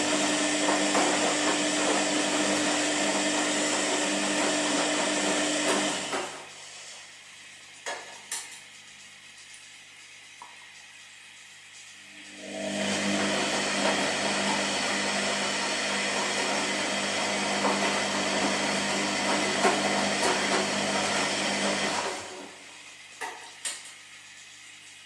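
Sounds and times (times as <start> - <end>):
washing machine running: 0.0 - 8.1, 10.0 - 25.0.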